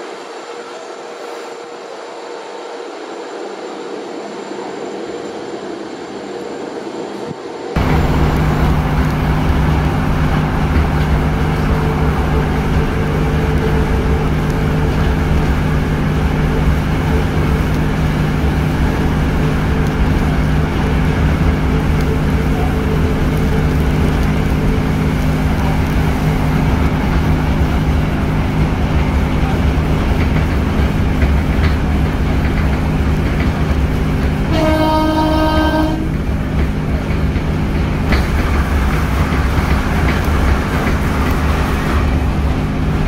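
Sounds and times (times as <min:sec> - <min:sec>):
diesel train engine drone: 0:00.0 - 0:43.0
wheel and rail rushing noise: 0:00.0 - 0:43.0.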